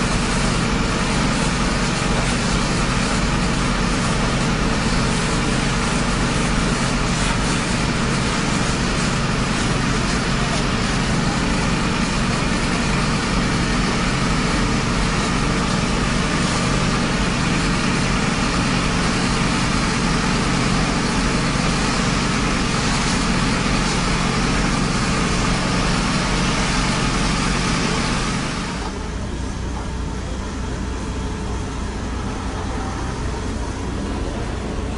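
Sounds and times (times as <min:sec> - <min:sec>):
engine droning: 0:00.0 - 0:34.9
fire hose spraying water: 0:00.0 - 0:34.9.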